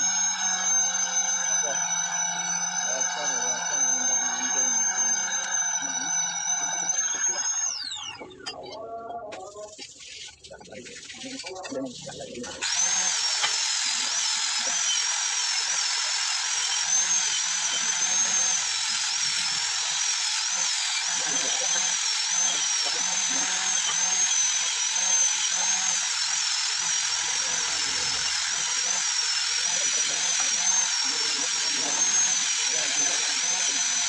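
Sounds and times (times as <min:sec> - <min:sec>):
high-speed motor whining: 0:00.0 - 0:08.6, 0:12.1 - 0:34.0.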